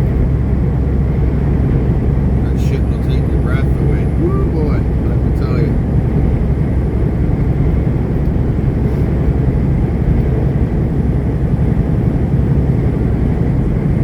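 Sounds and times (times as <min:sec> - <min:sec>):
truck engine drone: 0:00.0 - 0:14.0.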